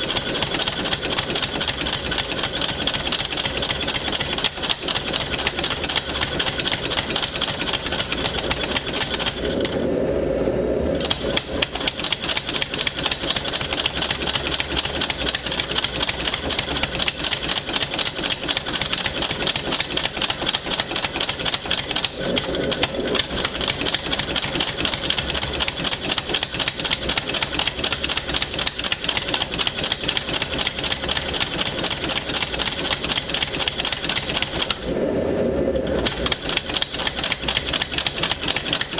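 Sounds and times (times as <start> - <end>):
power hammer pounding metal: 0.0 - 9.8, 11.0 - 35.0, 35.8 - 38.9.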